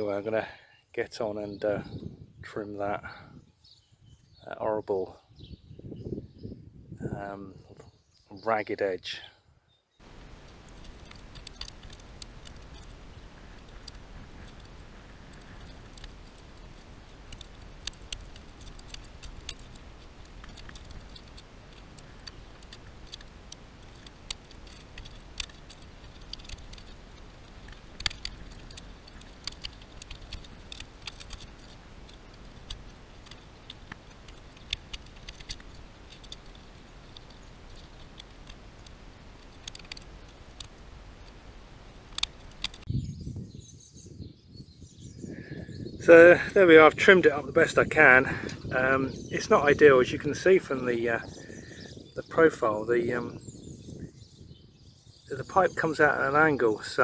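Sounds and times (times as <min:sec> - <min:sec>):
steady low hiss: 0:00.0 - 0:03.0, 0:06.6 - 0:57.0.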